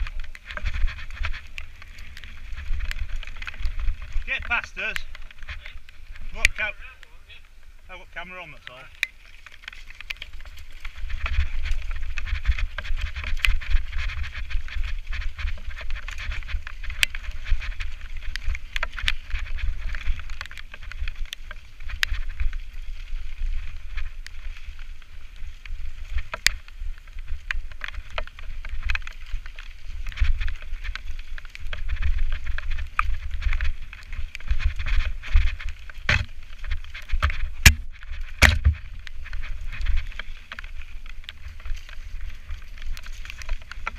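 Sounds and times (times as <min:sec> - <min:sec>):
bike knocking and rattling: 0:00.0 - 0:06.8, 0:08.7 - 0:43.9
tyres on dirt and stones: 0:00.0 - 0:43.9
wind rumbling on microphone: 0:00.0 - 0:43.9.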